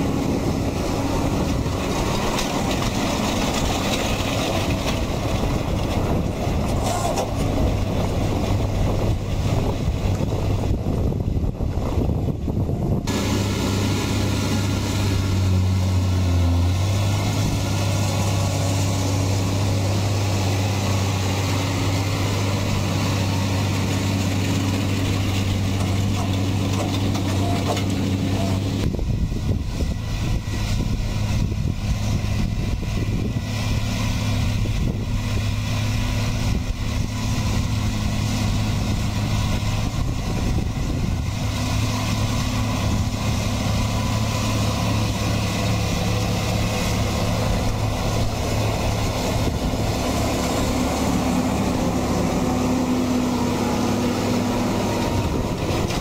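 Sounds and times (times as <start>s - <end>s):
loader wagon pickup gathering hay: 0.0s - 56.0s
tractor engine running: 0.0s - 56.0s.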